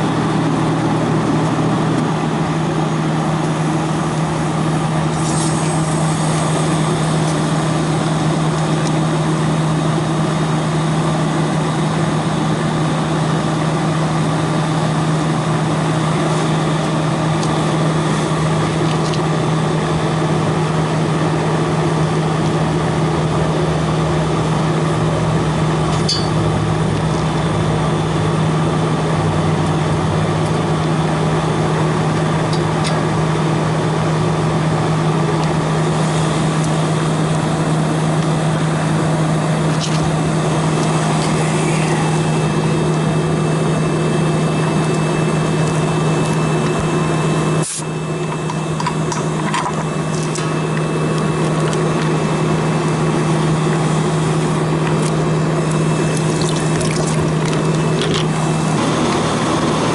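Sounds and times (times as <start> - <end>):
machine humming loudly: 0.0 - 59.9.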